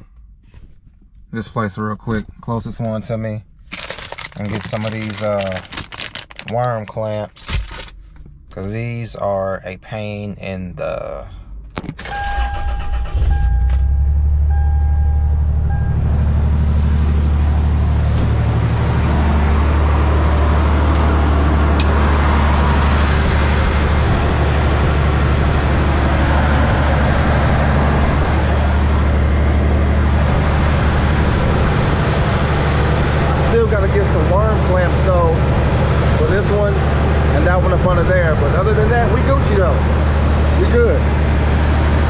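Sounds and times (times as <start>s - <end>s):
car engine starting and running: 2.6s - 42.0s.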